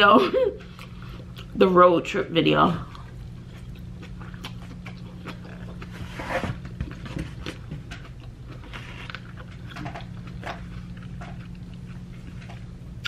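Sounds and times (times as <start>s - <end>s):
steady low hum: 0.0s - 13.0s
person chewing food: 0.6s - 1.6s, 2.8s - 13.0s.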